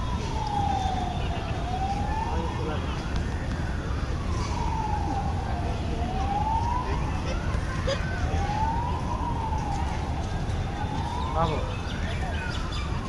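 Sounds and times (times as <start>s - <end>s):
wailing siren: 0.0s - 13.0s.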